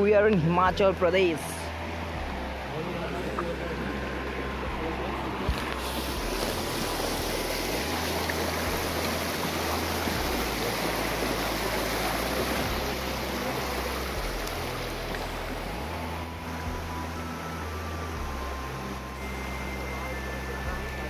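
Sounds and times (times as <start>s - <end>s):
stream splashing over rocks: 1.8s - 21.0s.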